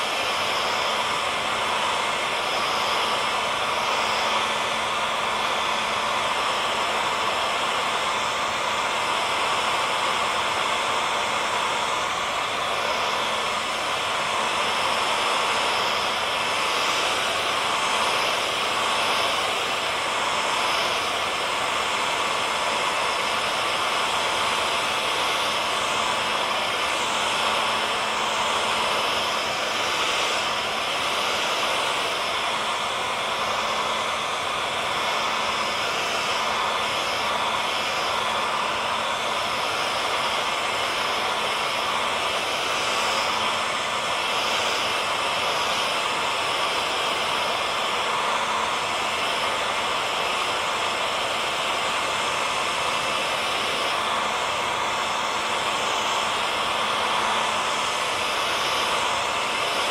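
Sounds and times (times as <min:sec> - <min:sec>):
faint motor hum: 0:00.0 - 0:59.9
hair dryer airy hiss: 0:00.0 - 0:59.9.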